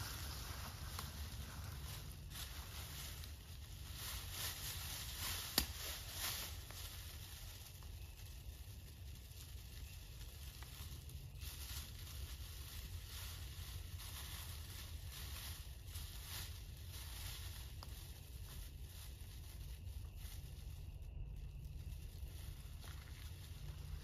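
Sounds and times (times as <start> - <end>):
foil blanket crinkling: 0.0 - 24.0
steady low rumble: 0.0 - 24.0.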